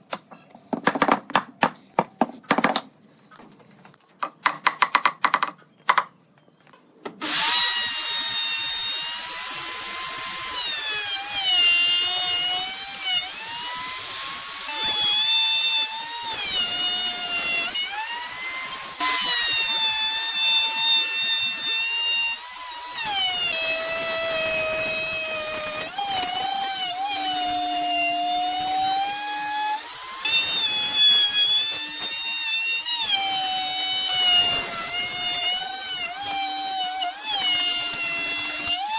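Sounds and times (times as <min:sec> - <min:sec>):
power tool cutting wood: 0:07.2 - 0:38.9.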